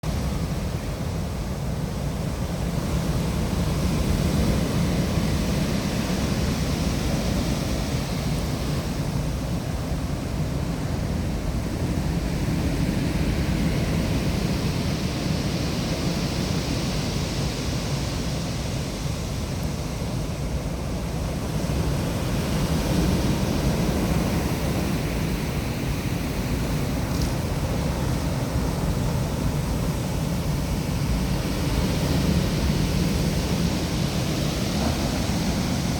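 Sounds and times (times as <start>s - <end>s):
storm waves breaking: 0.0s - 35.9s
wind buffeting microphone: 0.0s - 35.9s.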